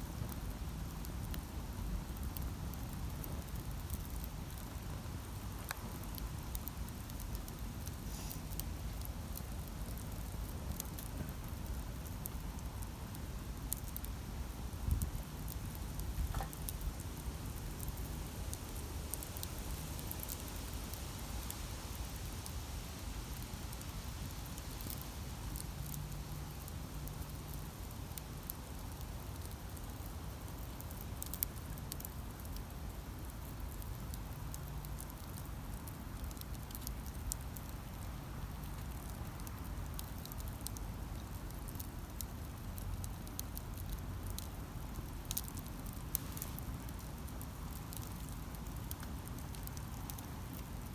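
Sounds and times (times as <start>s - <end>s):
low fire rumble: 0.0s - 50.9s
campfire crackling and popping: 0.1s - 50.9s.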